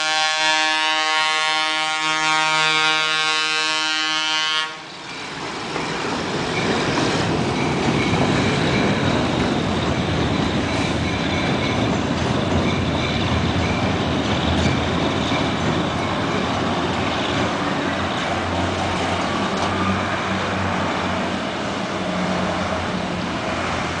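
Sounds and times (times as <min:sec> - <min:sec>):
train rumbling: 0:00.0 - 0:24.0
bus and truck engines passing: 0:04.1 - 0:24.0.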